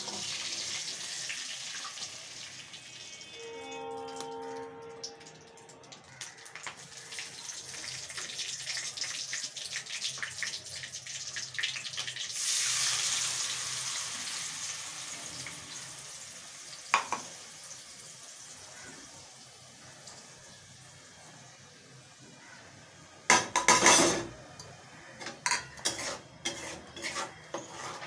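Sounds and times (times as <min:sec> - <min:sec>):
loud sizzle: 0:00.0 - 0:28.0
spices crackling in hot oil: 0:00.0 - 0:28.0.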